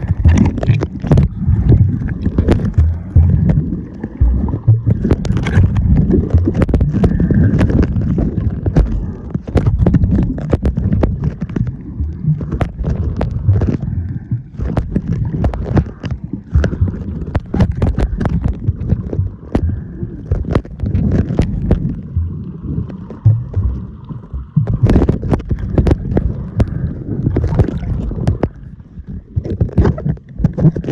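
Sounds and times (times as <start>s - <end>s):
muffled underwater rumble: 0.0s - 30.9s.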